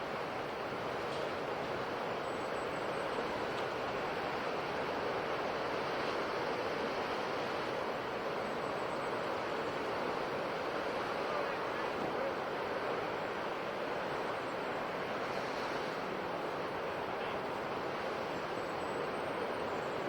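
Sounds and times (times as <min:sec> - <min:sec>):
ocean surf washing on shore: 0:00.0 - 0:20.0.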